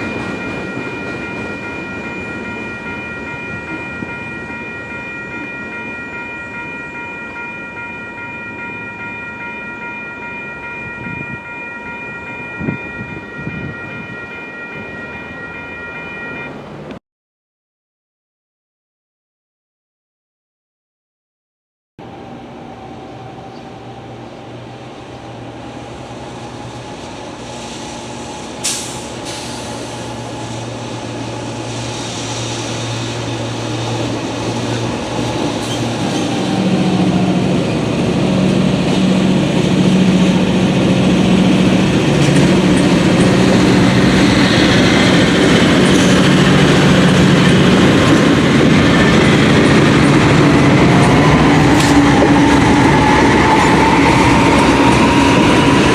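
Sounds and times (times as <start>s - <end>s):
diesel locomotive engine drone: 0.0s - 17.0s, 22.0s - 55.9s
train rail noise: 0.0s - 17.0s, 22.0s - 55.9s.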